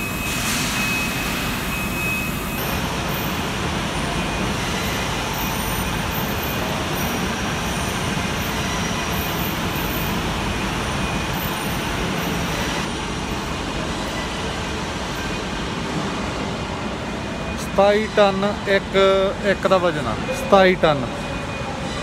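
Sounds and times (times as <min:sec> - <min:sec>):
overhead crane machinery noise: 0:00.0 - 0:22.0.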